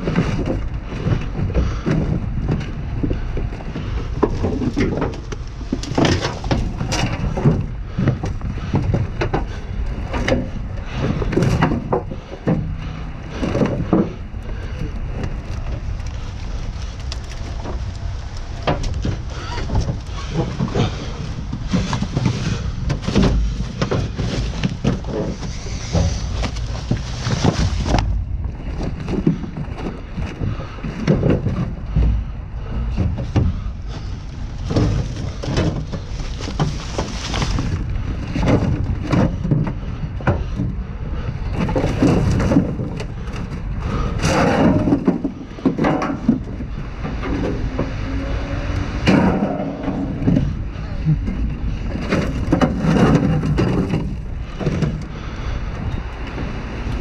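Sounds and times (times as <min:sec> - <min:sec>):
trash clattering in dumpster: 0:00.0 - 0:57.0
wind rumbling on microphone: 0:00.0 - 0:57.0.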